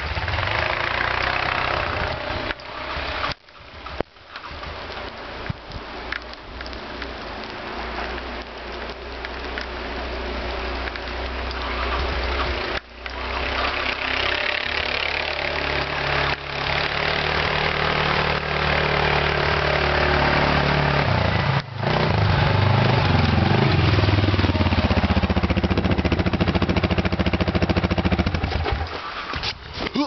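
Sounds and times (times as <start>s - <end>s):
quad bike engine: 0.0s - 5.5s, 6.8s - 29.6s.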